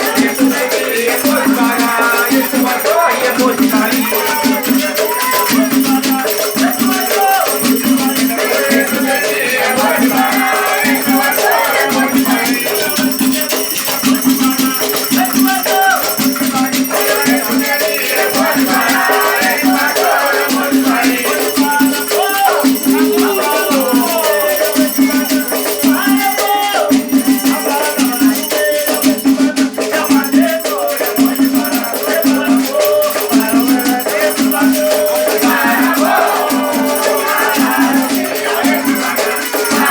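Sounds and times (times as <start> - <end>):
shaker rattling rhythmically: 0.0 - 39.9
voices singing: 0.0 - 39.9.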